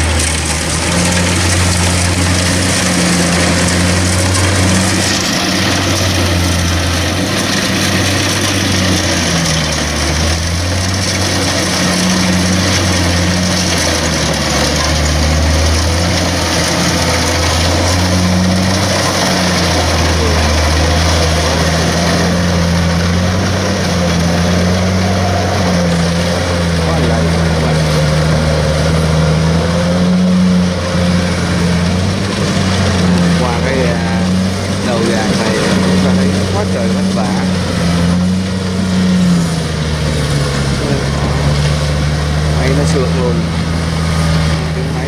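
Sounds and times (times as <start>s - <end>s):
combine harvester diesel engine: 0.0s - 45.0s.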